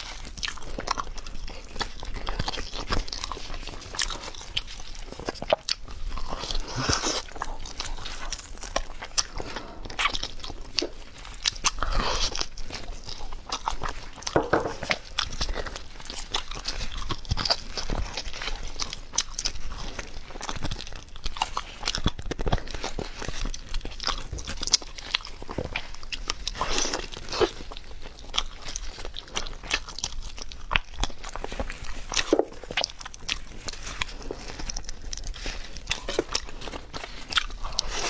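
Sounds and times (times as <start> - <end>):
crunchy biting and chewing: 0.0 - 38.0.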